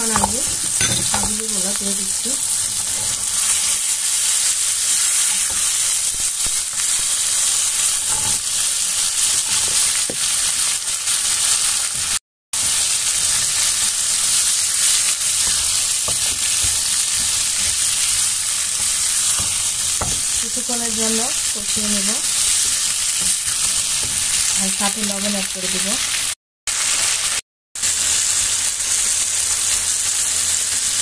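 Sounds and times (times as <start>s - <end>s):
oil sizzling in a pan: 0.0s - 31.0s.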